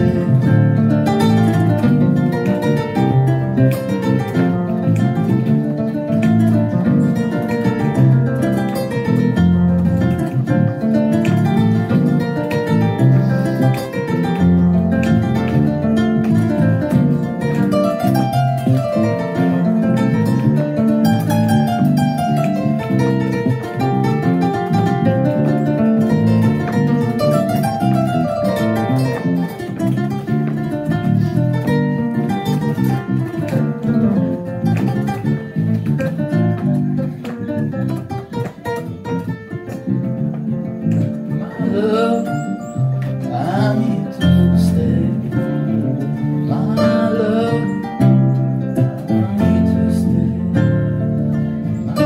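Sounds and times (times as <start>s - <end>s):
kora plucked melody: 0.0s - 52.0s.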